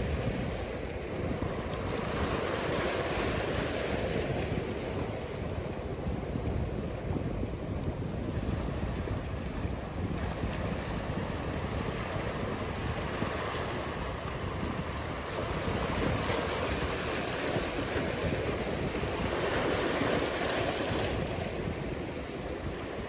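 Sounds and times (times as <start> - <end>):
ocean surf washing: 0.0 - 23.0
wind buffeting microphone: 0.0 - 23.0.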